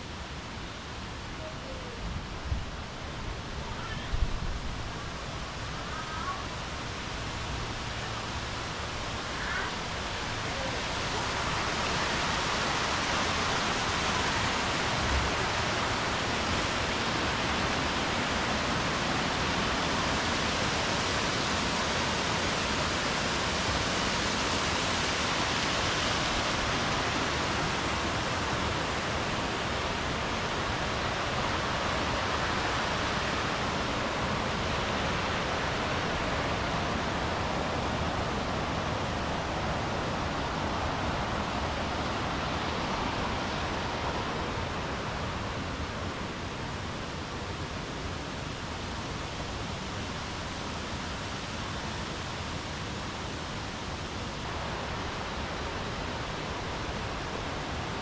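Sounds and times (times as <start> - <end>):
mountain stream rushing water: 0.0 - 58.0.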